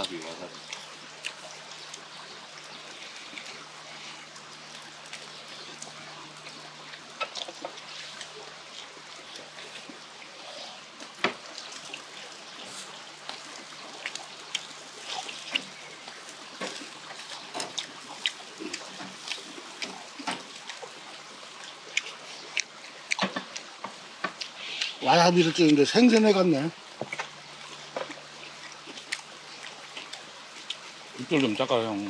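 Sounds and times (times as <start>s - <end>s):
background hiss: 0.0s - 32.0s
people chewing with wet smacks: 0.0s - 32.0s.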